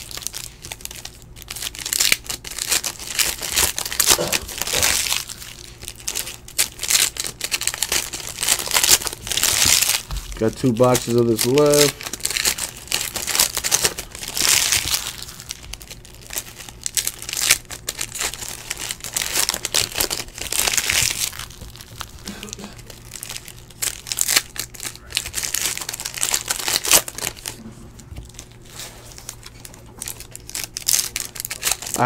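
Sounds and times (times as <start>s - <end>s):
foil wrappers crinkling and tearing: 0.0s - 32.0s.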